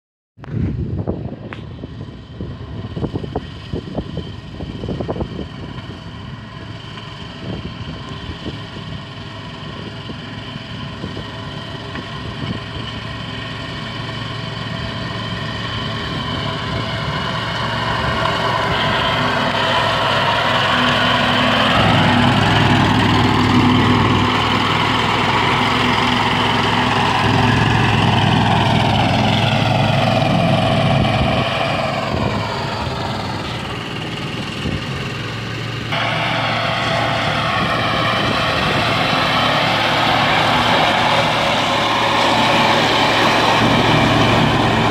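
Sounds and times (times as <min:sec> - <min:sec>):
loader engine and mower running: 0:00.4 - 0:44.9.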